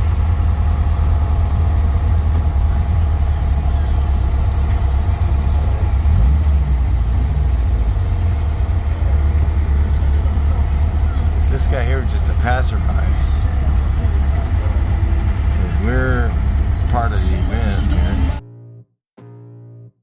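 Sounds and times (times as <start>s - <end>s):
car engine drone inside vehicle: 0.0s - 18.4s
road rumble: 0.0s - 18.4s.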